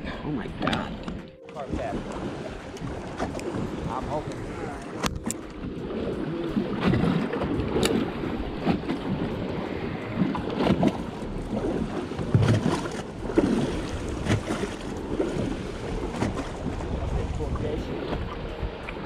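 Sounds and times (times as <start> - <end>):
wind rumbling on microphone: 0.0 - 19.0
water slapping against boat hull: 0.6 - 19.0.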